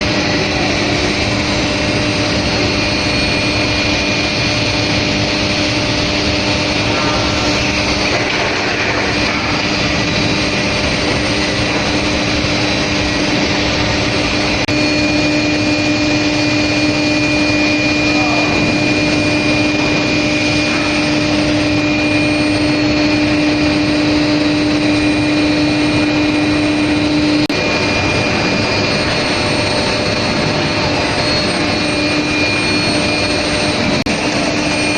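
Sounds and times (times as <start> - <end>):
high-pitched machine whine: 0.0 - 34.9
industrial low hum: 0.0 - 34.9.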